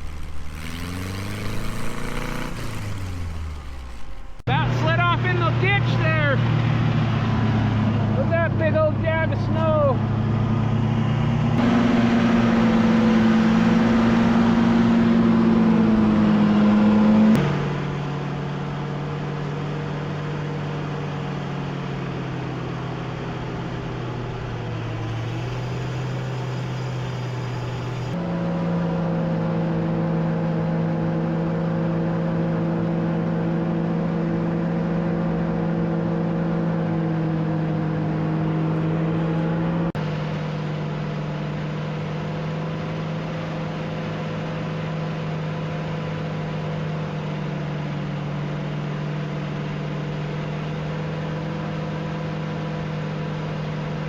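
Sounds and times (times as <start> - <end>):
snow vehicle engine running: 0.0 - 54.0.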